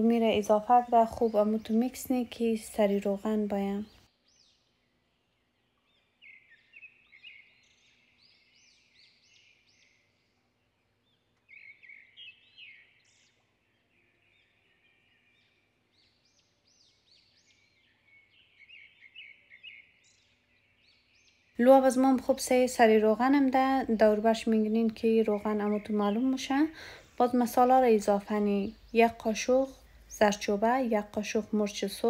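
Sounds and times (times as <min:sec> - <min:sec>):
faint bird chirping: 0:00.0 - 0:32.0.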